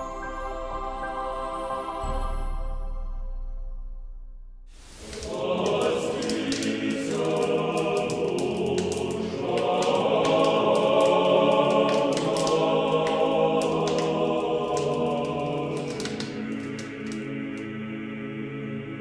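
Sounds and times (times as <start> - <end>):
choir singing: 0.0 - 3.1, 5.1 - 19.0.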